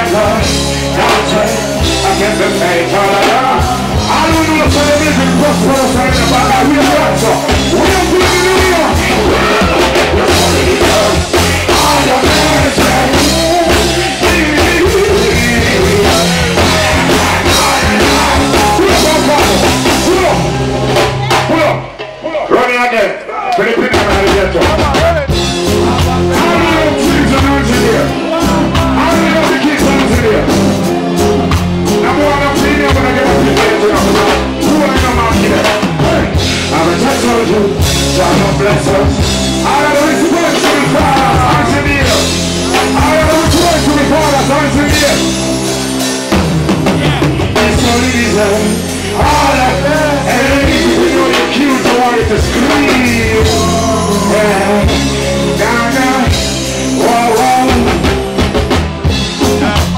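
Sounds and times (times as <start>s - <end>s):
man singing into microphone: 0.0s - 20.6s, 23.4s - 30.7s, 31.9s - 45.7s, 47.0s - 58.3s
live reggae band playing: 0.0s - 59.9s.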